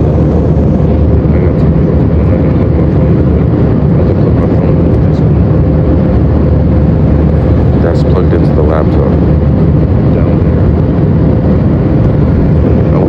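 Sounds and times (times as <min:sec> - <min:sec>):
airliner engine rumble: 0:00.0 - 0:13.0
constant hum: 0:00.0 - 0:13.0.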